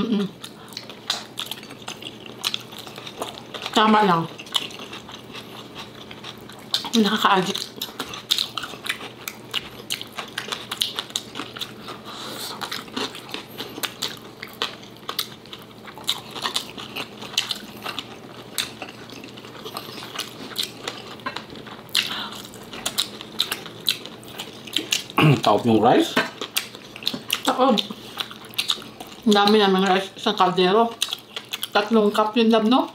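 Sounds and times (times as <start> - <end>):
chewing and lip smacks: 0.4 - 25.5, 26.3 - 30.1, 30.9 - 31.8.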